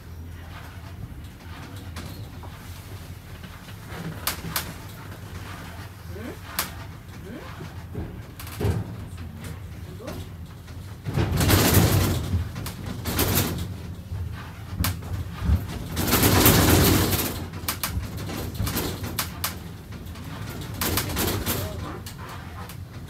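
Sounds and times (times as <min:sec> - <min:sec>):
cabin rumble and rattle: 0:00.0 - 0:23.0.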